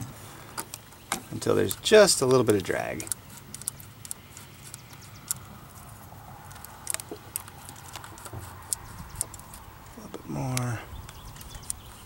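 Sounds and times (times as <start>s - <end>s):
small metal clicks and scrapes: 0.5s - 9.7s, 10.5s - 12.0s.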